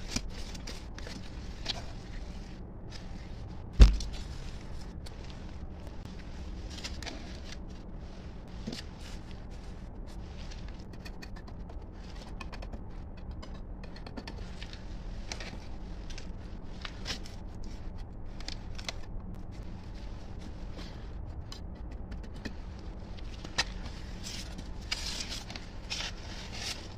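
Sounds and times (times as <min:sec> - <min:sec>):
low hum: 0:00.0 - 0:26.9.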